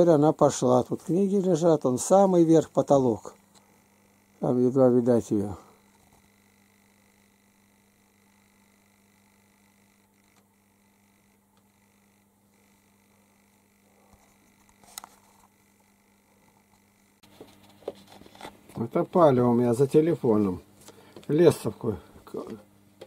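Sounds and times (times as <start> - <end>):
faint mains hum: 0.0 - 23.0.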